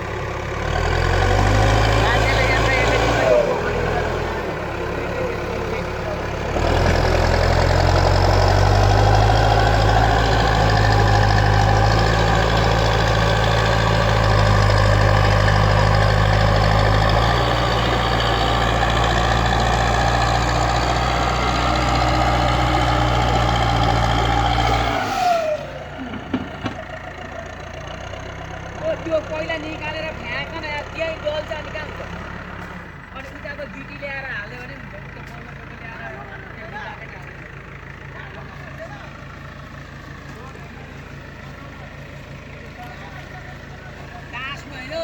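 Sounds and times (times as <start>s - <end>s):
heavy diesel engine revving: 0.0s - 45.0s.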